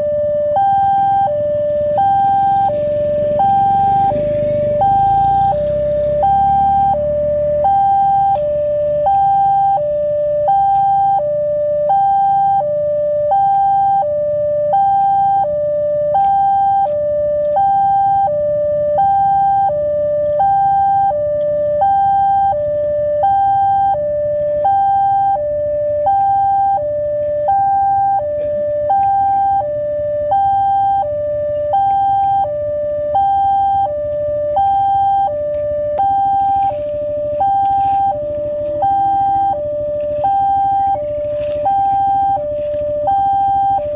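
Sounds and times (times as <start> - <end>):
level-crossing two-tone alarm: 0.0 - 43.9.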